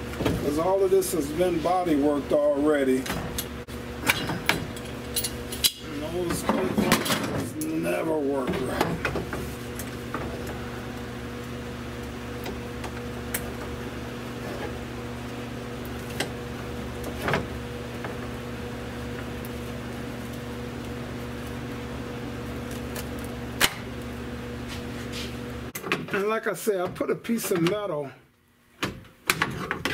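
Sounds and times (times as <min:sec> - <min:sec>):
low machine hum: 0:00.0 - 0:28.7.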